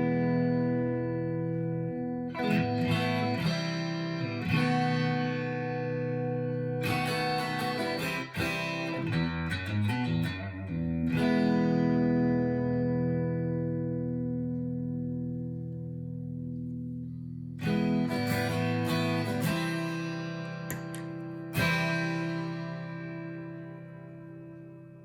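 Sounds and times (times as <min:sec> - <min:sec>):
clean electric guitar chords: 0:00.0 - 0:25.0.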